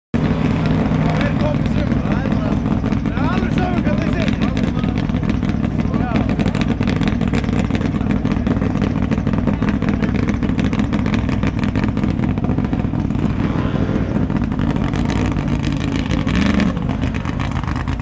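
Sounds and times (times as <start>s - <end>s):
engine running hard: 0.2s - 18.0s.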